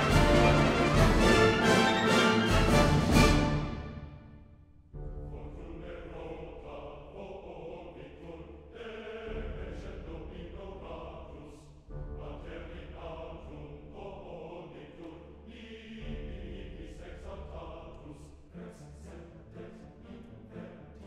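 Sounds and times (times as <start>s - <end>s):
choir singing: 0.0s - 4.4s, 5.3s - 21.0s.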